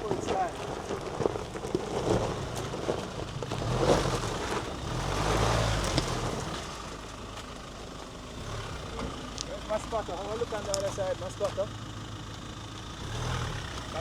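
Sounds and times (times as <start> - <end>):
pickup engine pulling under load: 0.0 - 14.0.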